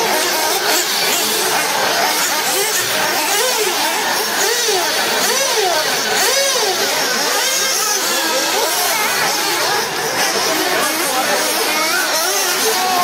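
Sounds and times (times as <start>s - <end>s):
remote control car motors whining: 0.0s - 13.0s.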